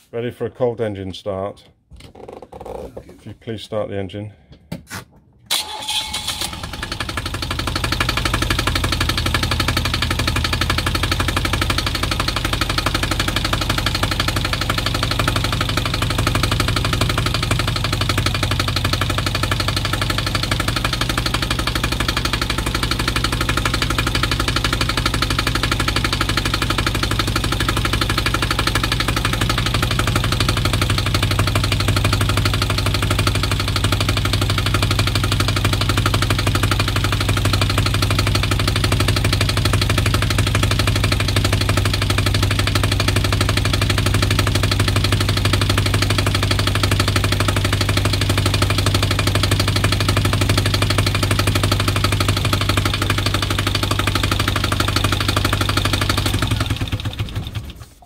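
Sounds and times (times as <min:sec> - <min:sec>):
diesel engine idling: 0:05.5 - 0:58.0.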